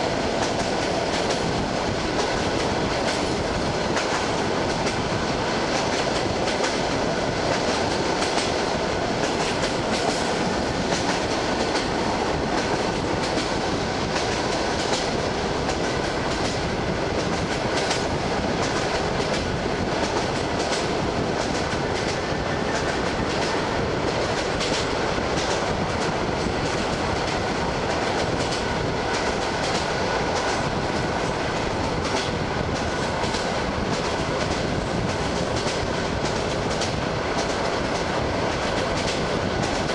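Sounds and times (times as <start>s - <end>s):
train rolling noise: 0.0s - 39.9s
train wheels clicking over rail joints: 0.0s - 39.9s.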